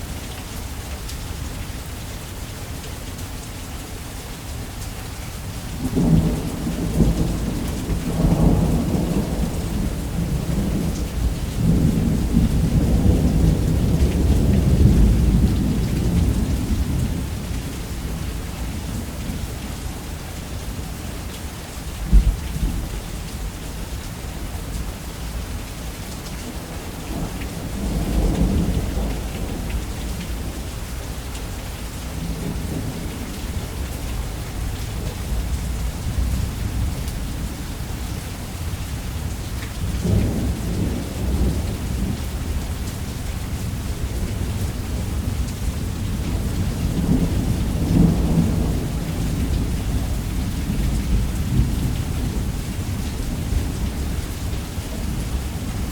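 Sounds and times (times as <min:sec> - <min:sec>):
heavy rain on a roof: 0:00.0 - 0:55.9
rolling thunder rumble: 0:05.8 - 0:19.5, 0:22.0 - 0:23.6, 0:26.4 - 0:55.9.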